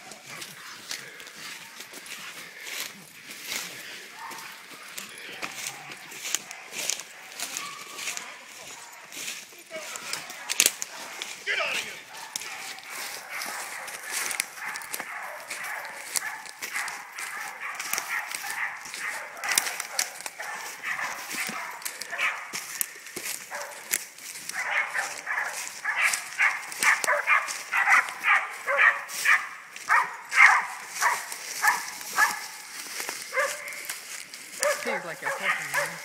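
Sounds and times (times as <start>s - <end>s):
dogs barking: 0.0s - 2.9s, 3.5s - 36.0s
footsteps crunching through leaves: 0.0s - 36.0s.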